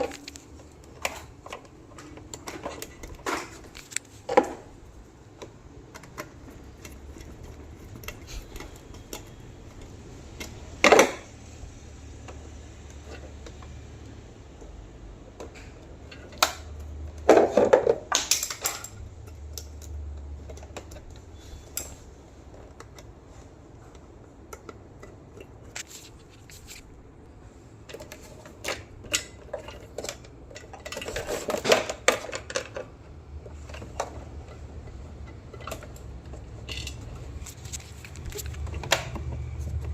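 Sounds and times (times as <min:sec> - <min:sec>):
tools clicking and clattering: 0:00.0 - 0:27.0, 0:27.8 - 0:39.9.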